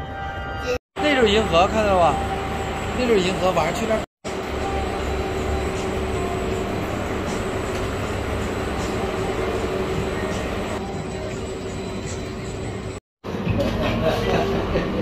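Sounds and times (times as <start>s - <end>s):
ferris wheel machinery rumbling: 1.0s - 15.0s.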